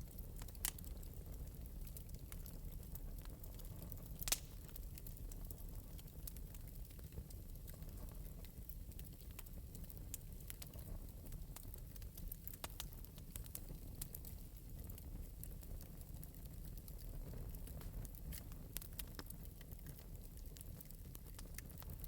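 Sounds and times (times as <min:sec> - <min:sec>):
fire crackling softly: 0:00.0 - 0:22.0.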